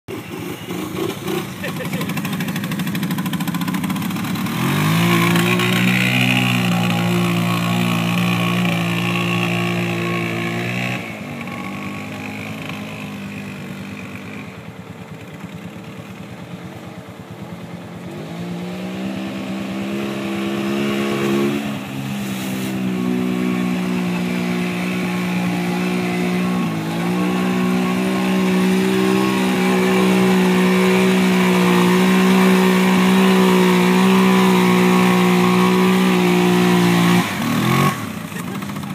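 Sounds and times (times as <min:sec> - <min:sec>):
atv engine revving: 0:00.1 - 0:38.9.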